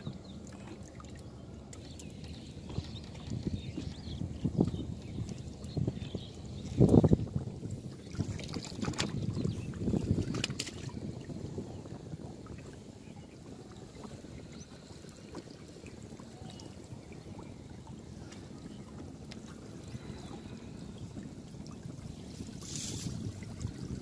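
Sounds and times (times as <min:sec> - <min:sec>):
river water lapping and trickling: 0:00.0 - 0:24.0.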